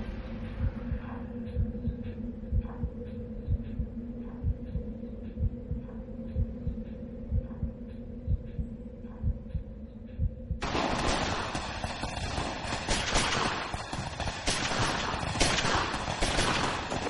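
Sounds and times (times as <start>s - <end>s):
heartbeat-like low thumps: 0.0s - 17.0s
steady low drone: 0.0s - 17.0s.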